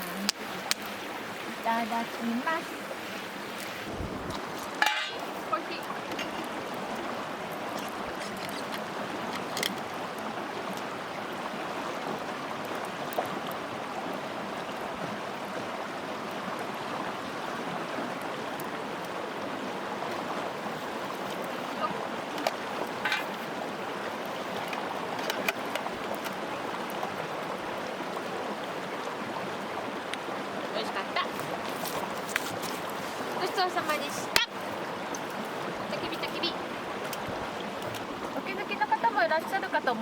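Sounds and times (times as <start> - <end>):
stream running: 0.0 - 40.0.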